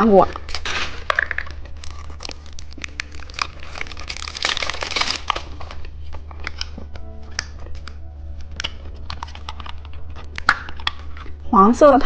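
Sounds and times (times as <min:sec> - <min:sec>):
plastic packaging crinkling: 0:00.0 - 0:11.5
low steady hum: 0:00.0 - 0:12.0.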